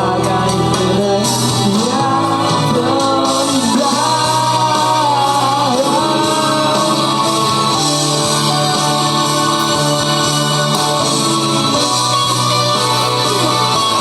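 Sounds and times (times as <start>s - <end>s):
instrumental backing: 0.0s - 14.0s
person singing: 0.0s - 14.0s.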